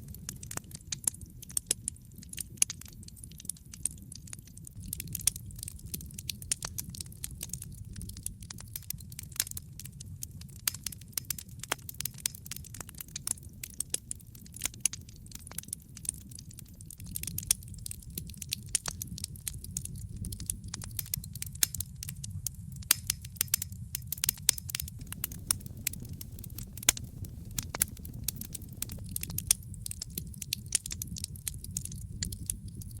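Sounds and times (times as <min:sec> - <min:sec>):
low rumble of burning fire: 0:00.0 - 0:33.0
wood fire crackling: 0:00.0 - 0:33.0.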